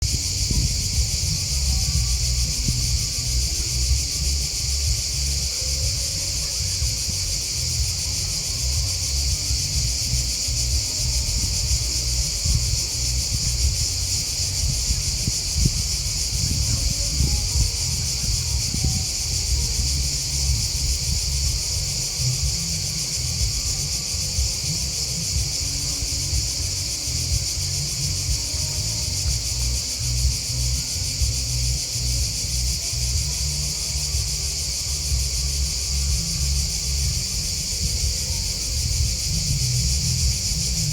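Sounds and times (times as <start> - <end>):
insects chirping trill: 0.0 - 40.9
low rumble: 0.0 - 40.9.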